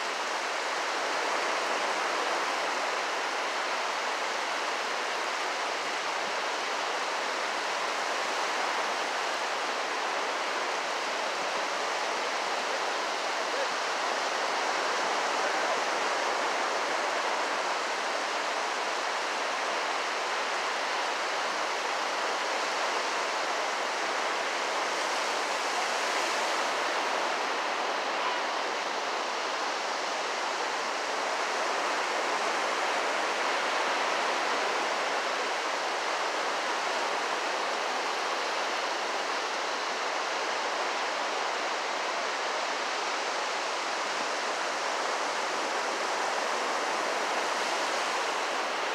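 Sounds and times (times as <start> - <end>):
ocean surf hissing on beach: 0.0 - 48.9.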